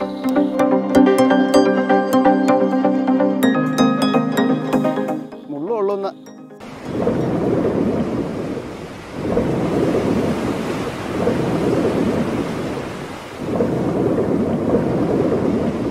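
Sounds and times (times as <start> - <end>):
ocean waves washing: 0.0 - 15.9.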